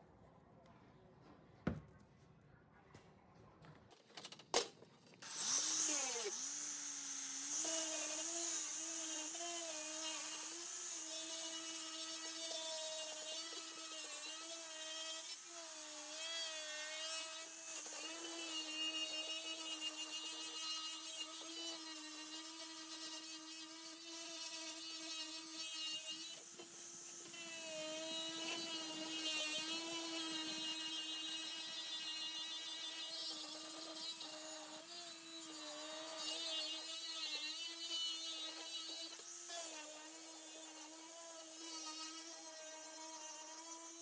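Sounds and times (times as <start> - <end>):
handheld power tool whining: 5.2 - 44.0.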